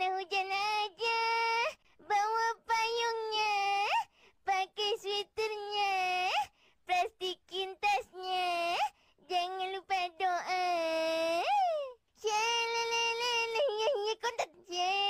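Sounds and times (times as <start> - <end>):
boy singing unaccompanied: 0.0 - 15.0.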